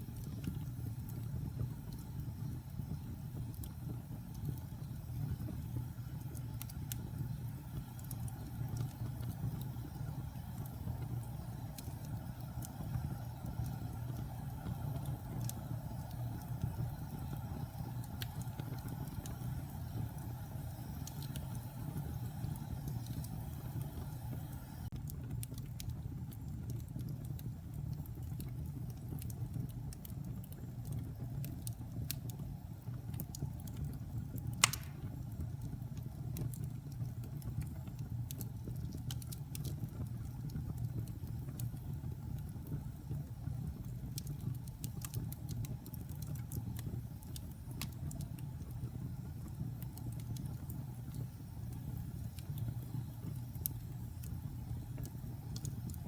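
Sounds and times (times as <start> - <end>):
fire crackling: 0.0 - 56.0
fire flame rumble: 0.0 - 56.0.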